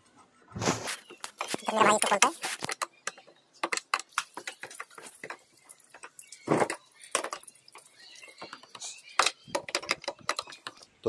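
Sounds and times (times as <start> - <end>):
clicks and knocks of tool work: 0.9 - 11.0.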